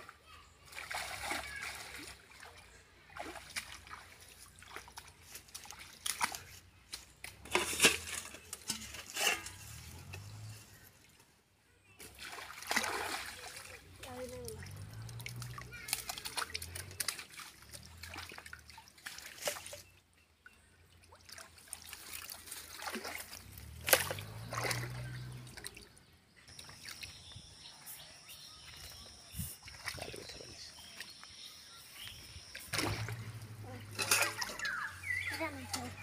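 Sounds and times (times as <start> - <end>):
muddy water sloshing and splashing: 0.0 - 36.0.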